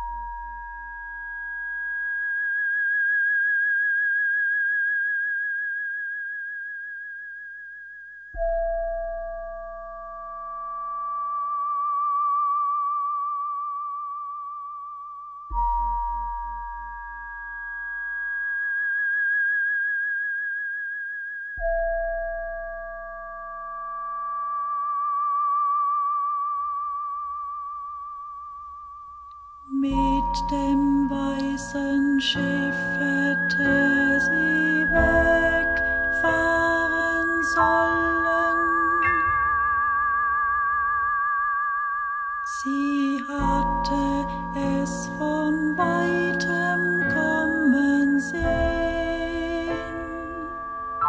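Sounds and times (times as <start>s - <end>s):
sine-like electronic tones: 0.0s - 51.0s.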